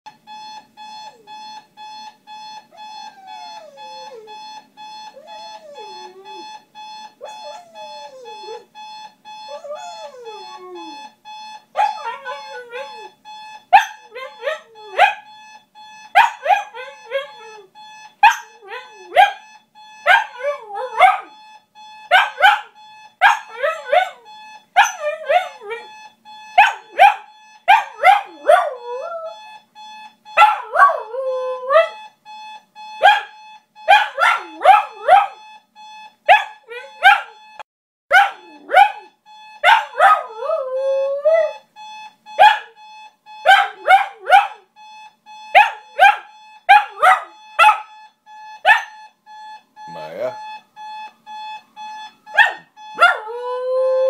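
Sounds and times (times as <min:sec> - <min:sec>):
electronic alarm beeping: 0:00.1 - 0:54.0.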